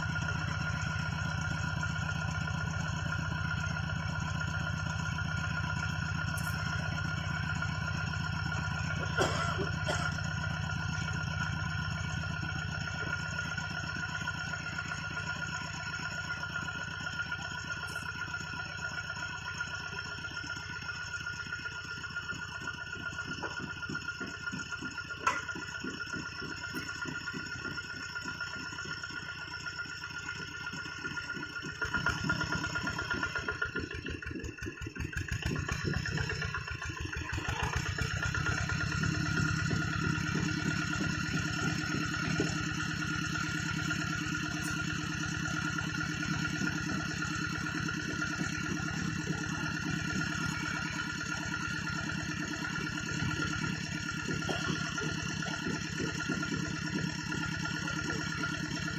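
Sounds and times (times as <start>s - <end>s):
hand tractor engine chugging: 0.0s - 58.9s.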